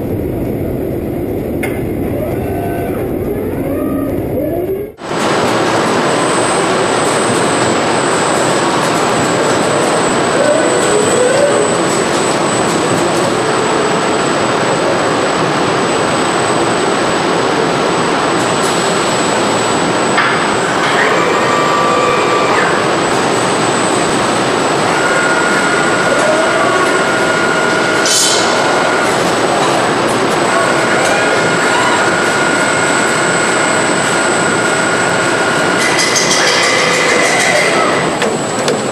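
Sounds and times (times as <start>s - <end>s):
thin high whine: 0.0s - 38.6s
production line machine hiss and hum: 0.0s - 38.9s.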